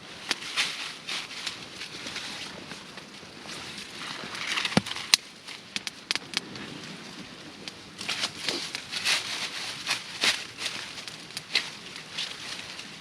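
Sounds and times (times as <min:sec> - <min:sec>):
pine boughs rustling: 0:00.0 - 0:13.0.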